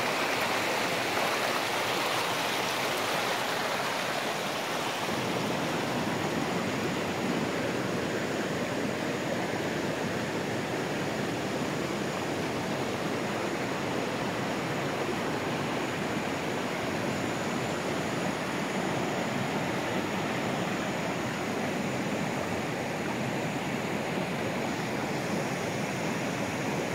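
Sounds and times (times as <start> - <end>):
river water rushing over rocks: 0.0 - 26.9.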